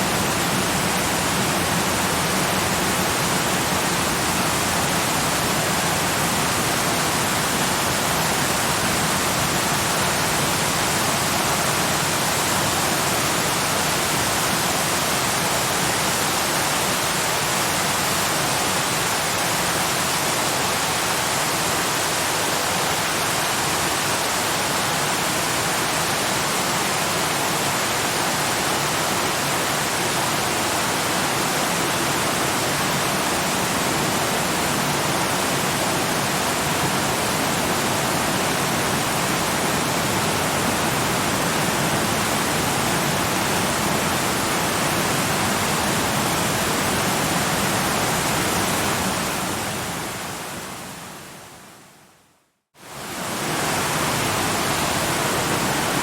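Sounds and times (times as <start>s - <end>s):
waterfall rushing: 0.0s - 51.2s, 52.8s - 56.0s.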